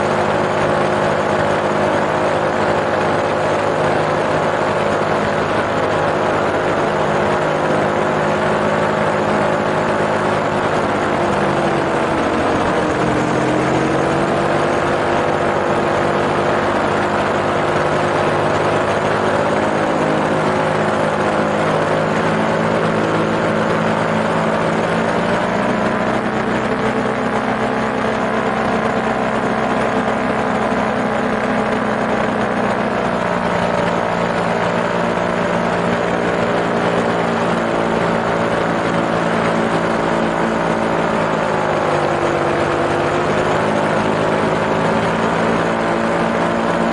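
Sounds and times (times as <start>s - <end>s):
propeller engine in flight: 0.0s - 46.9s.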